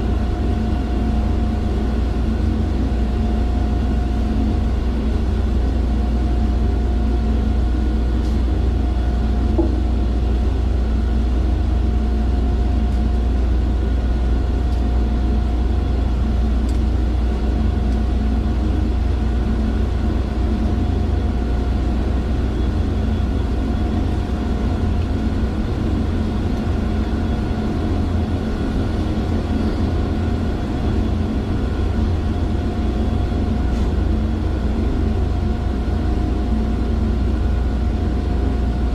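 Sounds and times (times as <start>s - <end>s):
industrial machinery drone: 0.0s - 38.9s.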